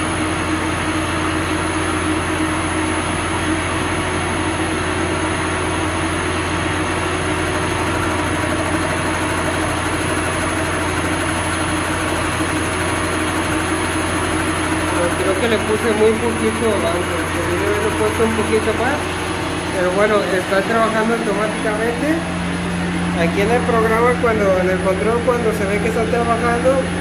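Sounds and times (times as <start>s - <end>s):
lathe mechanical drone: 0.0s - 27.0s.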